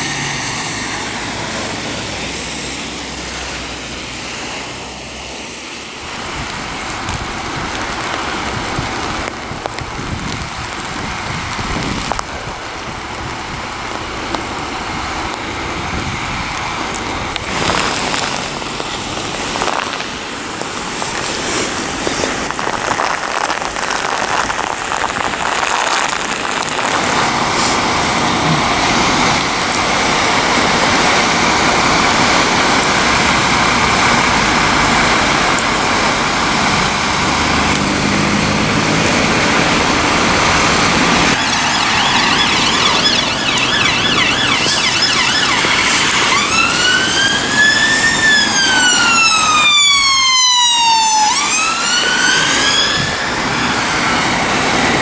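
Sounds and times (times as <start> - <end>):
rain falling: 0.2 - 55.0.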